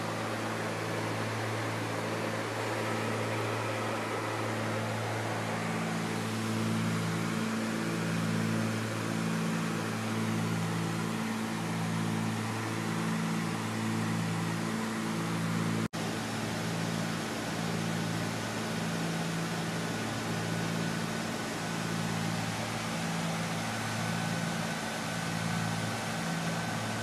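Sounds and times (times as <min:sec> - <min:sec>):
aircraft engines droning: 0:00.0 - 0:27.0.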